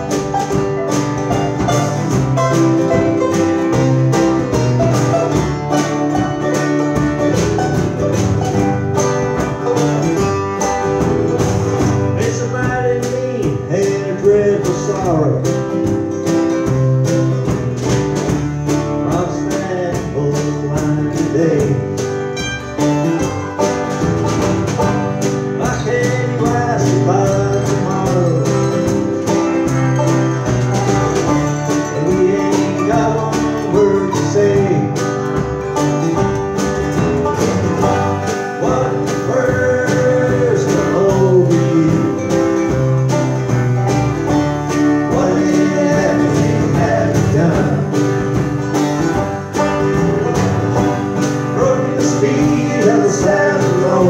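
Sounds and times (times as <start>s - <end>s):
bluegrass band playing: 0.0s - 54.0s.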